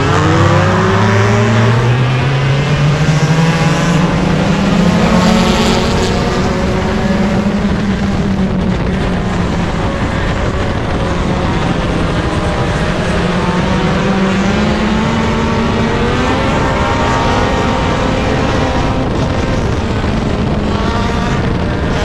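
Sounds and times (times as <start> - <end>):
race car engine running: 0.0 - 22.0.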